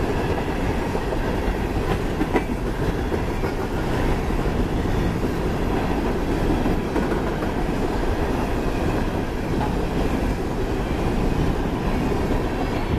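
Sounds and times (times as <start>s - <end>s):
steel wheels on rails: 0.0s - 12.9s.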